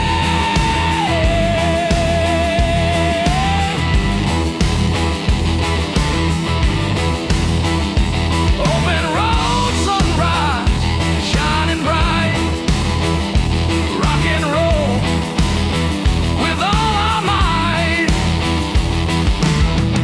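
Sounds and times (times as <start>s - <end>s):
bass: 0.0s - 20.0s
lead guitar line: 0.0s - 20.0s
steady drum beat: 0.0s - 20.0s.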